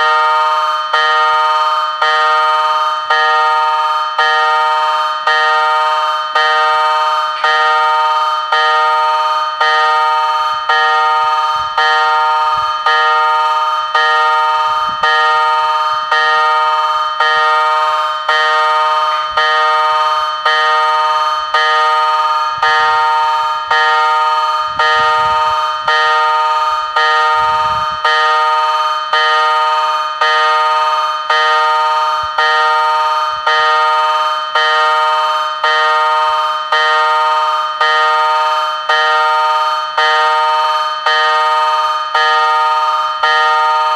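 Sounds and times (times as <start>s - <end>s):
level crossing bell ringing: 0.0s - 43.9s.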